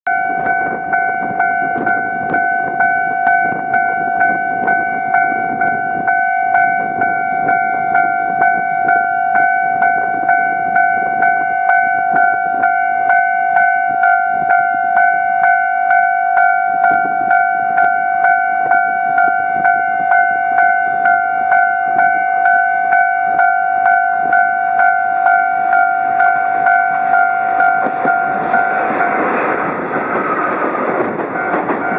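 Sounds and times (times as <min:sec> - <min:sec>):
level-crossing warning bell ringing: 0:00.1 - 0:31.9
rush of noise: 0:00.2 - 0:31.9.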